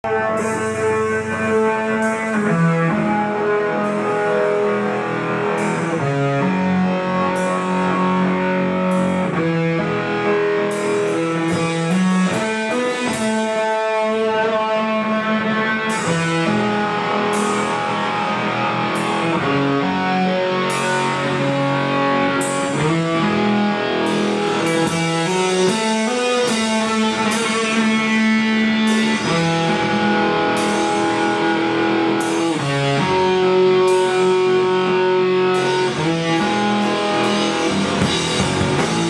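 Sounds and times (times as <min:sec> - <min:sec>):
electric guitar held chords: 0:00.0 - 0:39.0.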